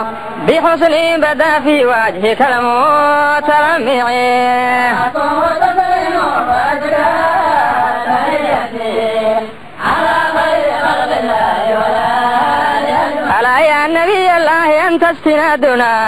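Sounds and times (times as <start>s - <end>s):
devotional singing: 0.0s - 15.9s.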